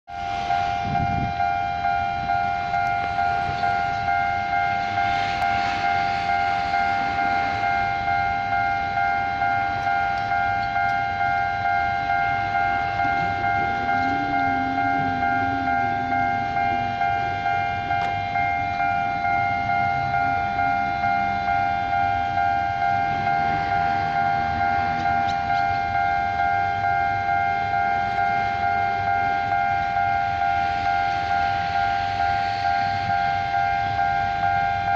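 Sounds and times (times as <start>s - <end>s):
level crossing alarm bell: 0.1s - 34.9s.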